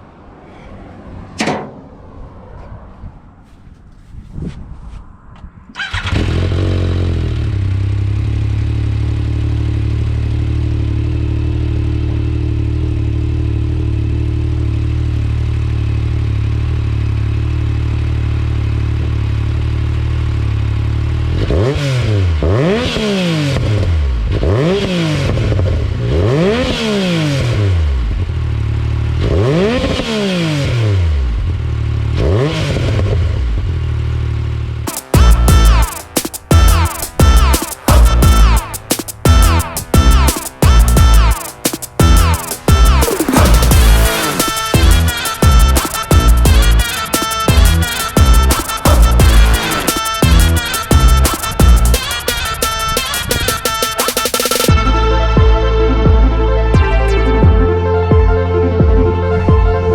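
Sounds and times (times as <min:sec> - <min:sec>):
engine idling and revving: 0:05.8 - 0:59.9.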